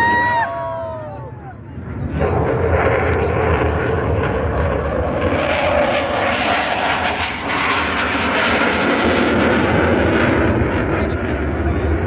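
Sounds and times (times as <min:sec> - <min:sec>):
military aircraft engine noise: 0:00.0 - 0:12.0.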